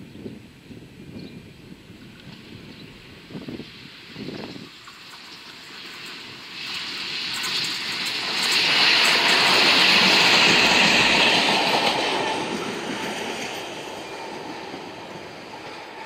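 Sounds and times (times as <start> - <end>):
diesel locomotive engine: 0.0 - 16.0
train wheel noise: 2.0 - 16.0.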